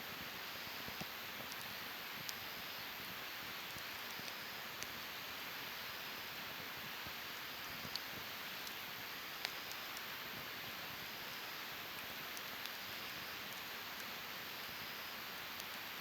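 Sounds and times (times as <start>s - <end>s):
campfire hissing: 0.0s - 16.0s
fire crackles and pops: 0.1s - 5.4s, 6.4s - 16.0s.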